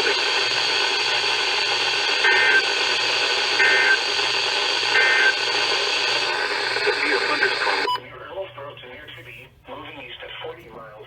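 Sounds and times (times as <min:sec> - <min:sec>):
radio static hiss: 0:00.0 - 0:10.8.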